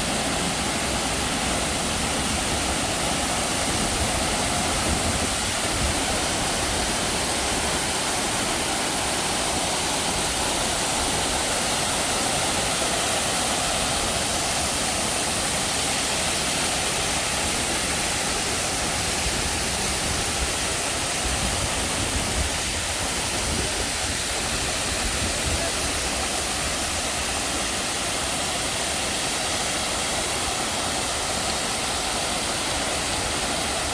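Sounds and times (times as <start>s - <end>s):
waterfall pouring and splashing: 0.0s - 33.9s.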